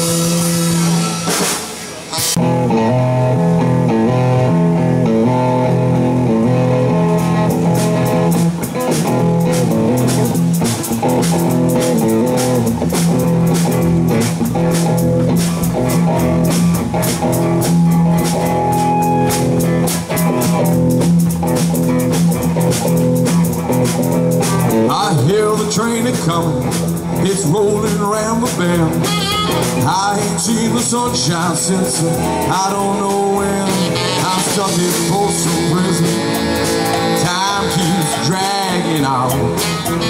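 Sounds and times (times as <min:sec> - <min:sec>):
drum kit and cymbals: 0:00.0 - 0:02.6, 0:05.8 - 0:40.0
bass guitar: 0:00.0 - 0:40.0
electric guitar lines: 0:00.0 - 0:40.0.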